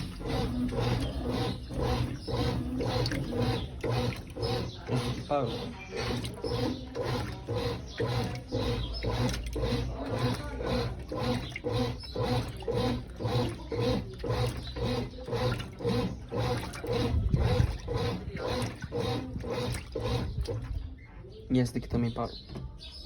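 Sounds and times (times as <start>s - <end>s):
washing machine agitating: 0.0s - 22.8s.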